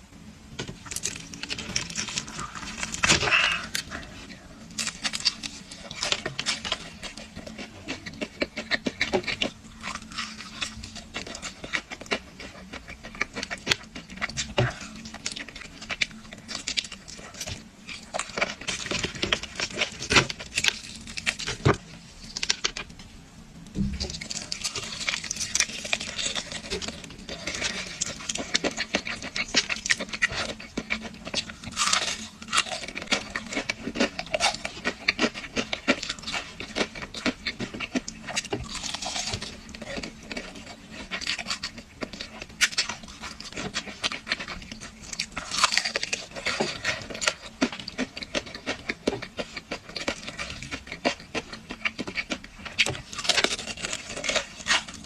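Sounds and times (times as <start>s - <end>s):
crunching fried chicken: 0.7s - 23.0s, 23.8s - 55.0s.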